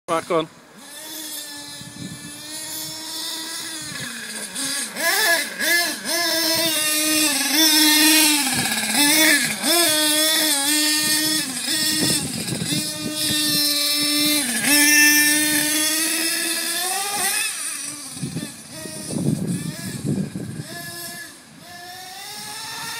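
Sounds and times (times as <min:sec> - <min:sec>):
toy truck motor buzzing: 0:00.1 - 0:22.9.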